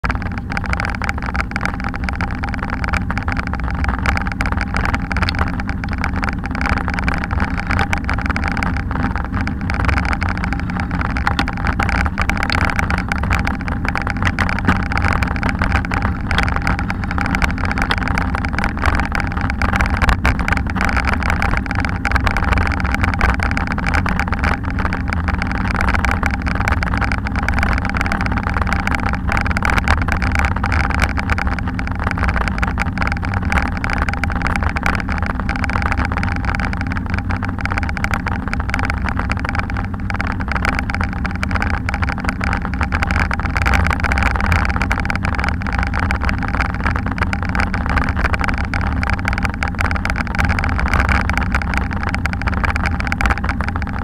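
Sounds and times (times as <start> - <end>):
bicycle rolling over brick paving: 0.0 - 54.0
wind rush on microphone: 0.0 - 54.0.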